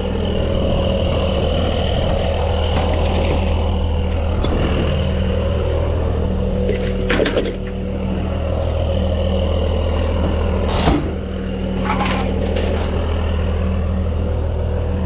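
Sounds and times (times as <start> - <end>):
truck diesel engine idling: 0.0 - 12.0, 12.6 - 15.0.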